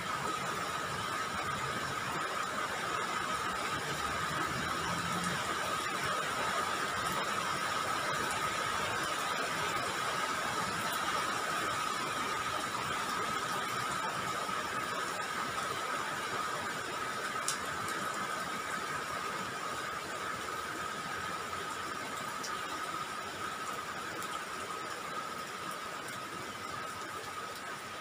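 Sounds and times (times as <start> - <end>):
rain hiss: 0.0 - 28.0.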